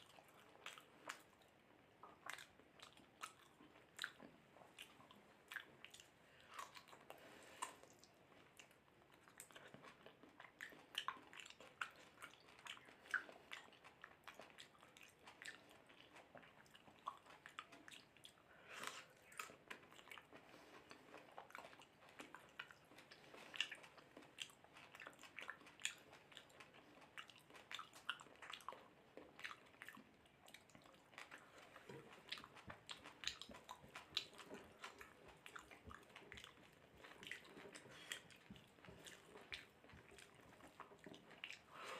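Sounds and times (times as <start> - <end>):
lip smacks: 0.0 - 41.9
person chewing wetly: 0.0 - 41.9.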